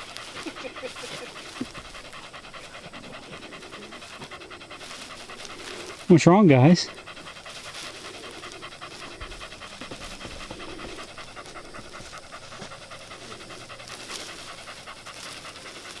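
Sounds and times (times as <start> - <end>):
rapid panting: 0.0 - 16.0.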